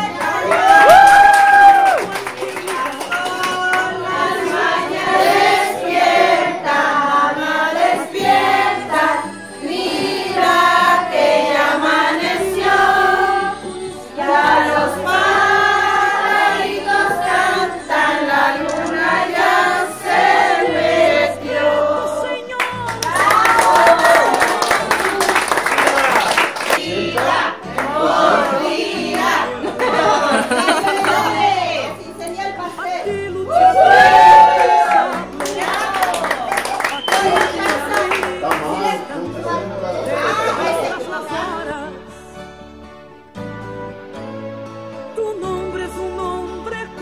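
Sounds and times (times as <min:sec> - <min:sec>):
voices singing together: 0:02.0 - 0:42.2.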